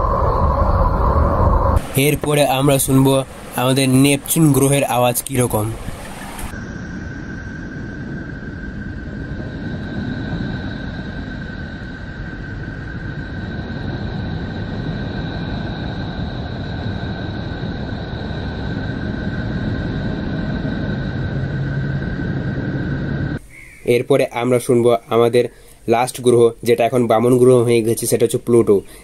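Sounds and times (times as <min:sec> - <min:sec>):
rumbling rush of noise: 0:00.0 - 0:23.5
thin steady whistling tones: 0:00.0 - 0:29.0.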